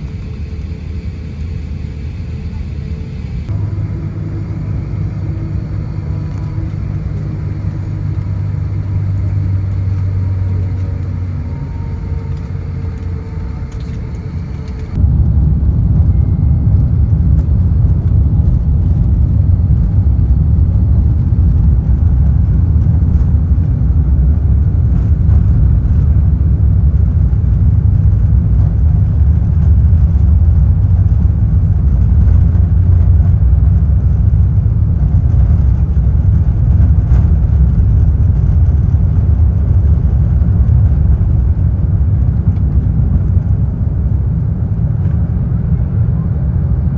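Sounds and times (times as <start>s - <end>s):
jet engine hum and rumble: 0.0s - 46.9s.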